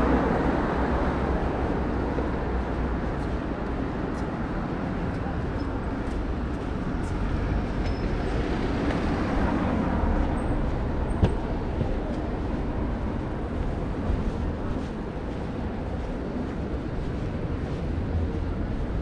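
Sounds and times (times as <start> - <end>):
city street traffic rumble: 0.0 - 19.0.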